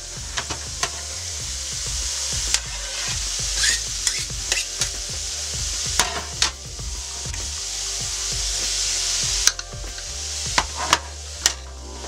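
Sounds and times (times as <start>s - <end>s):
metal utensil scraping a pan: 0.0s - 6.6s, 7.2s - 12.0s
vegetables sizzling in a frying pan: 0.0s - 12.0s.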